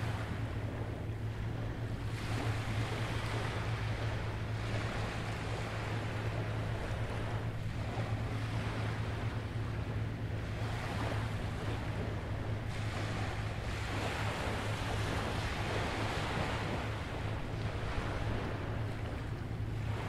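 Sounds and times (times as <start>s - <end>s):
ocean waves washing on beach: 0.0s - 20.0s
steady low hum: 0.0s - 20.0s.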